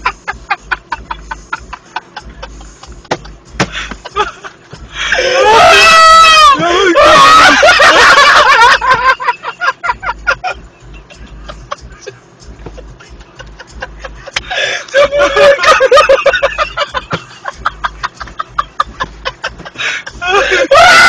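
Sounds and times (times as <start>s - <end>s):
people laughing hard: 0.0s - 21.0s.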